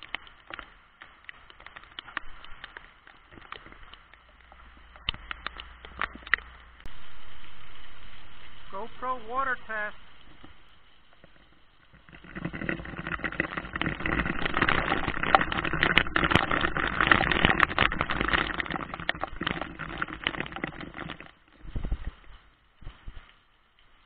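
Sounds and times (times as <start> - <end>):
heavy rain hitting camera: 0.0 - 24.0.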